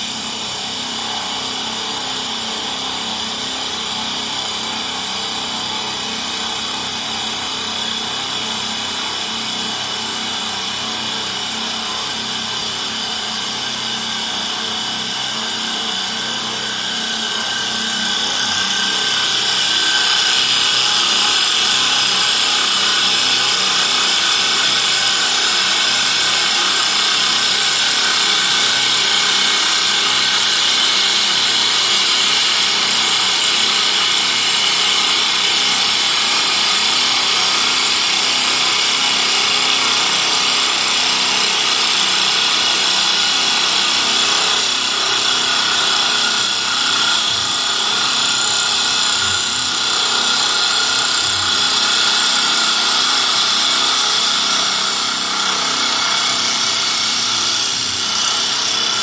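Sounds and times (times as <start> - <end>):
wood lathe whine: 0.0 - 59.0.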